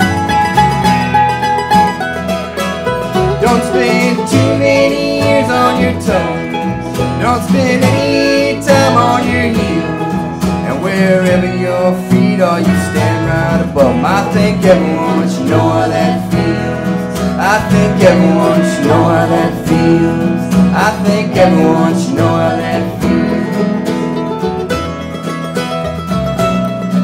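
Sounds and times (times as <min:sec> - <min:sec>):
electric guitar: 0:00.0 - 0:27.0
mandolin: 0:00.0 - 0:27.0
strummed acoustic guitar: 0:00.0 - 0:27.0
upright bass: 0:00.0 - 0:27.0.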